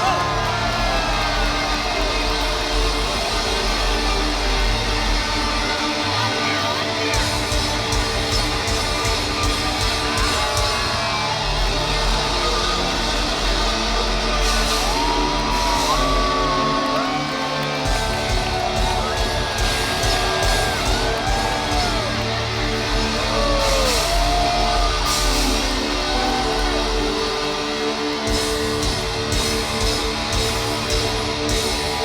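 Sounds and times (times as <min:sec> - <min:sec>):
audience yelling and whooping: 0:00.0 - 0:32.0
hard rock band playing live: 0:00.0 - 0:32.0.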